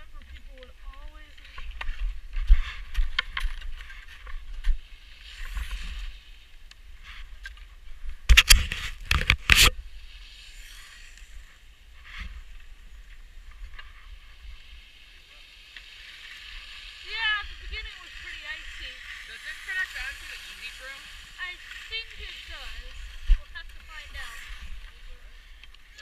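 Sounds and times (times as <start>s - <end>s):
wind rumbling on camera: 0.0s - 15.2s, 16.5s - 26.0s
skis scraping over snow: 0.0s - 26.0s.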